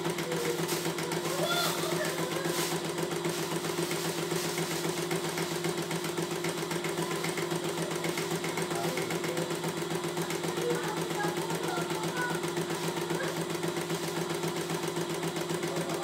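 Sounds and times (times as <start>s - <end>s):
embroidery machine stitching: 0.0s - 16.0s.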